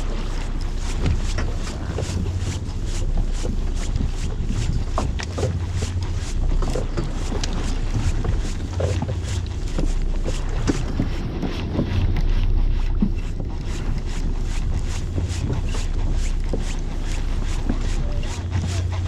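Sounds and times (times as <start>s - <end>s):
boat rumbling: 0.0s - 19.0s
wind on microphone: 0.0s - 19.0s.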